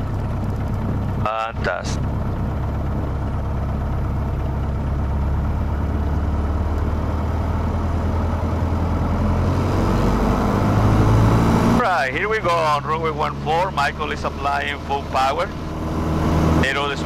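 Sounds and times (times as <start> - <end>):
light aircraft engine humming: 0.0 - 17.0.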